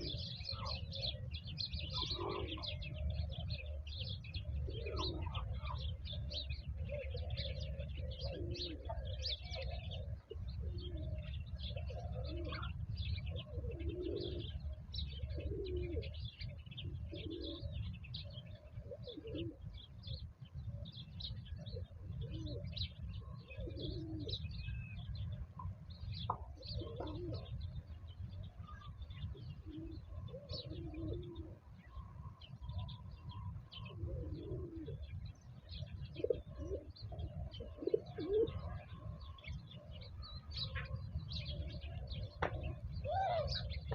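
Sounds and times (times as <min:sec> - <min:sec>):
pigeons cooing: 0:00.0 - 0:43.9
small birds chirping: 0:00.0 - 0:43.9.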